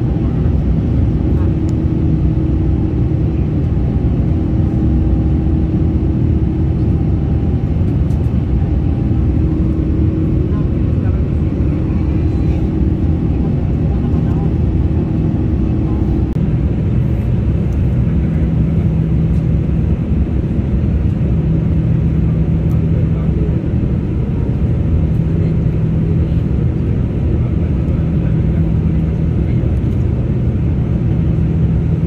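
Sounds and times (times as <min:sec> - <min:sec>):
jet engines rumbling: 0:00.0 - 0:32.0
low hum: 0:00.0 - 0:32.0.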